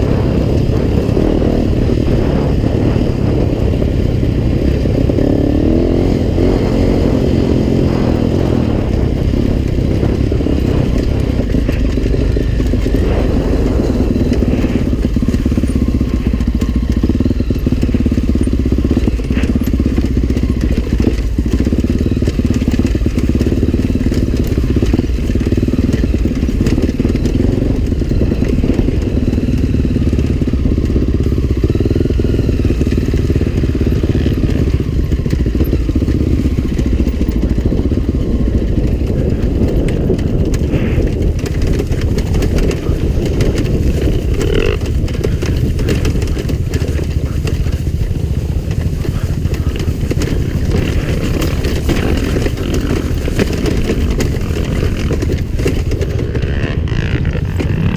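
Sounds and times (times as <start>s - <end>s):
knocks and clatter from bike: 0.0s - 57.9s
motorcycle engine running: 0.0s - 57.9s.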